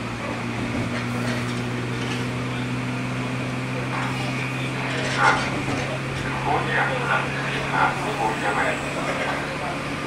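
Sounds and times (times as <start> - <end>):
train car electrical hum: 0.0 - 10.0.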